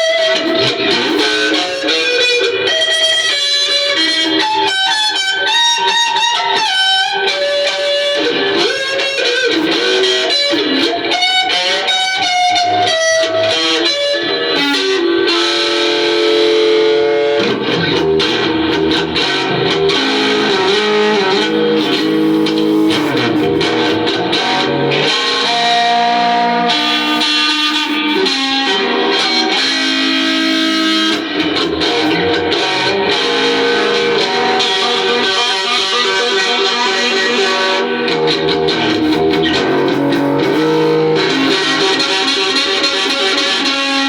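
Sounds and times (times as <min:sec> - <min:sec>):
blues-rock electric guitar: 0:00.0 - 0:44.0.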